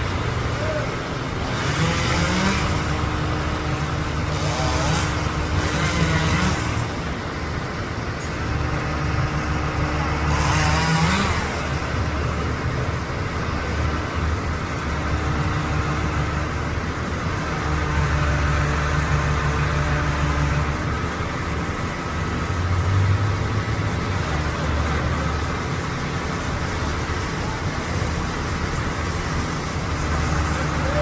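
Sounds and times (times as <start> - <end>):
large engine humming: 0.0 - 31.0.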